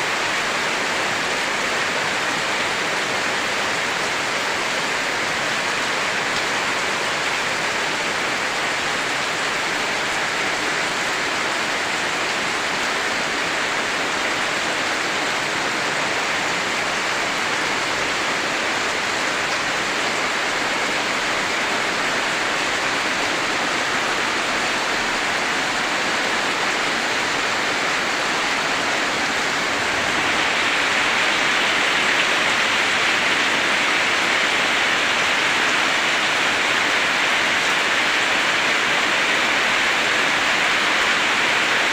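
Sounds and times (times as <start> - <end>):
heavy rainfall: 0.0 - 41.9.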